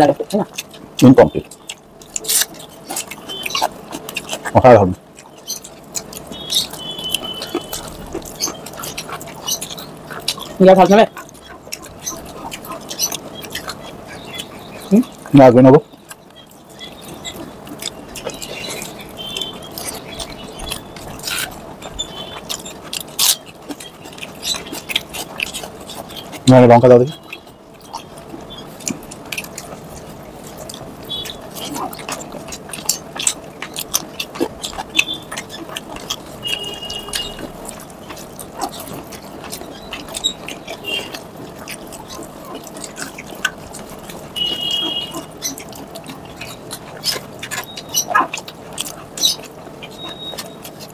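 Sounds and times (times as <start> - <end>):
fingers squishing rice and curry: 0.0 - 50.9
mouth clicks: 0.0 - 50.9
wet chewing: 0.0 - 50.9.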